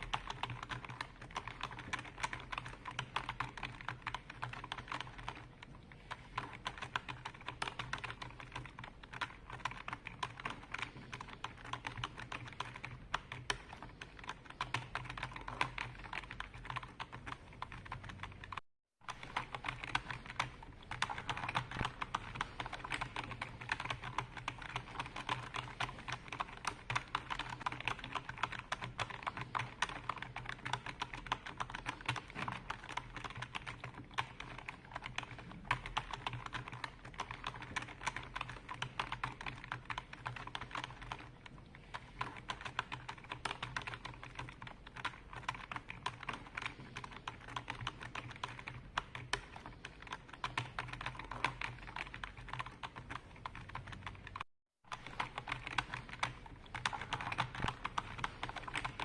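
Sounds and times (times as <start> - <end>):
keyboard typing clicks: 0.0 - 41.3, 41.9 - 59.0.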